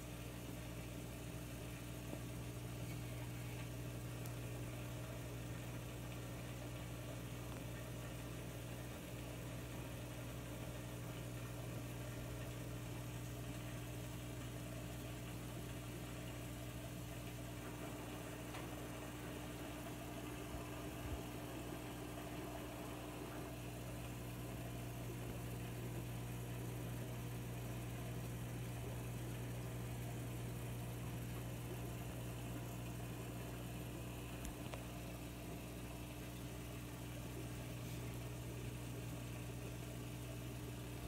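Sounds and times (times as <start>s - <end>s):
aquarium filter pump humming: 0.0s - 41.0s.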